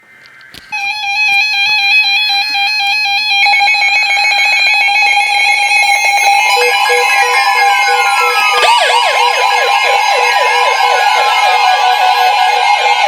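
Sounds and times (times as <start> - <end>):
beeping tone with falling sweep: 0.7 - 13.0
electronic alarm alternating beeps: 0.7 - 13.0.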